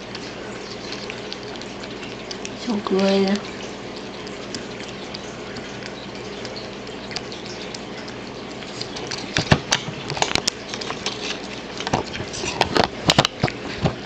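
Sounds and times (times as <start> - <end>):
cat chewing wetly: 0.0 - 14.0.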